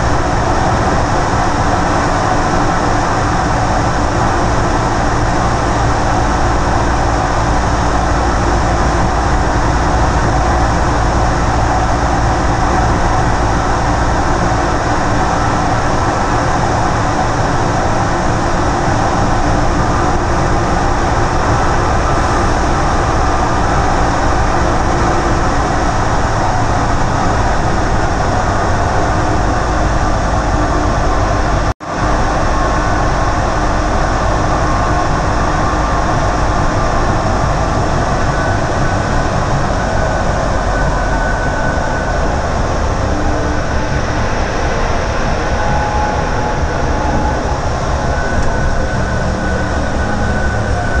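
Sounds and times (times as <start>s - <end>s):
metro car running rush: 0.0s - 51.0s.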